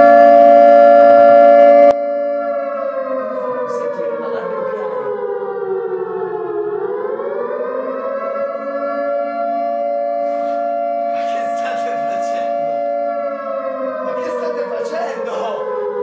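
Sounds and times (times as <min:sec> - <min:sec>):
air raid siren over loudspeaker: 0:00.0 - 0:16.0.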